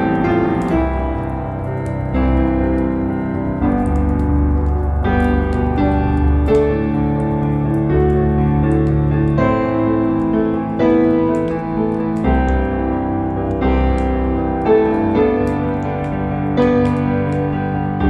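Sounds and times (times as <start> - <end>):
fireplace crackling: 0.0 - 18.0
piano music with bass: 0.0 - 18.0.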